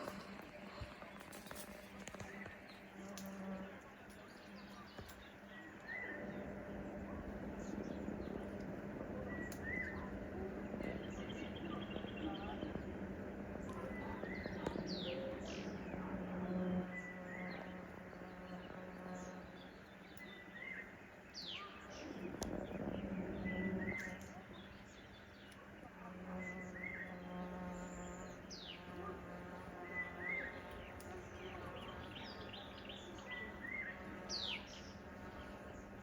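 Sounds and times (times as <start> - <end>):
birds chirping: 0.0 - 36.0
steady low buzz: 0.0 - 36.0.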